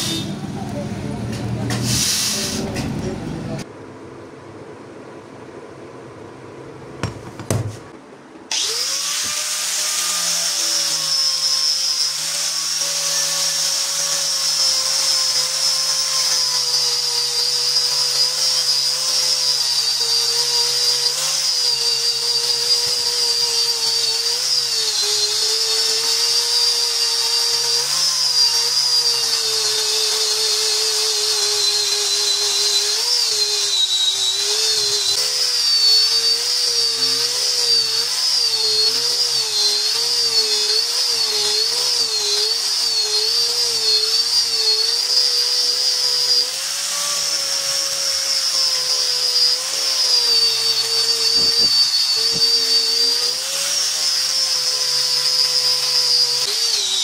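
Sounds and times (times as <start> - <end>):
power tool motor running: 0.0 - 0.8, 8.5 - 57.0.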